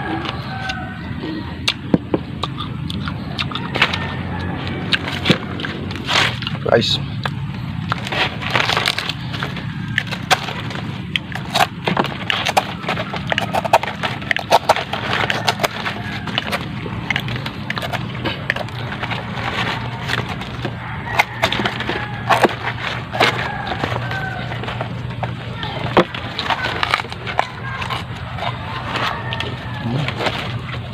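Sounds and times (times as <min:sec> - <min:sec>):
low hum: 0:00.0 - 0:30.9
chewing crisp food crunches: 0:01.6 - 0:30.9.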